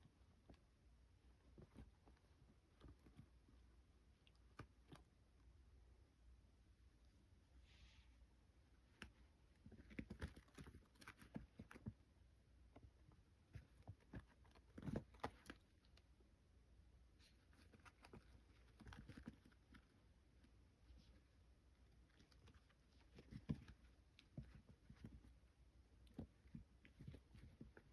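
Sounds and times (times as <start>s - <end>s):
kittens pawing and scrambling: 0.0s - 5.5s, 8.6s - 16.2s, 17.1s - 27.9s.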